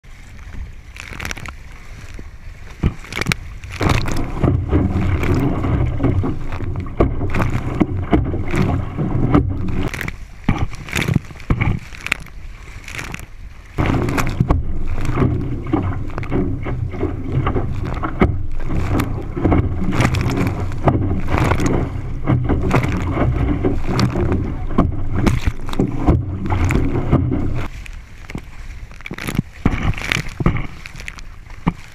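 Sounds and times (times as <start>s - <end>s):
water rushing against hull: 0.0s - 31.9s
water slapping: 0.0s - 31.9s
wind buffeting microphone: 0.0s - 31.9s.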